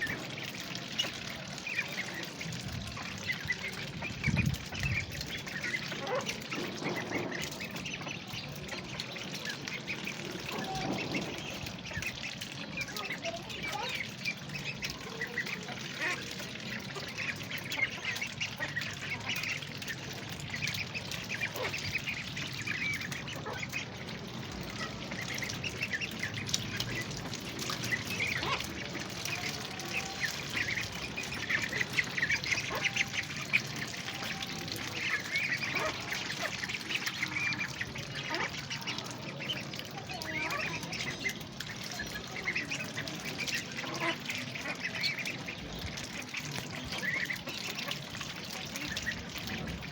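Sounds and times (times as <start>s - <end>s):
ducklings peeping: 0.0s - 49.9s.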